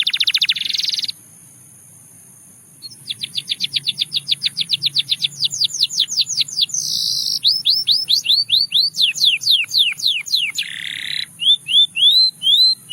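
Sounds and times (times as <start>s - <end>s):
canary singing: 0.0s - 1.2s, 2.8s - 12.9s.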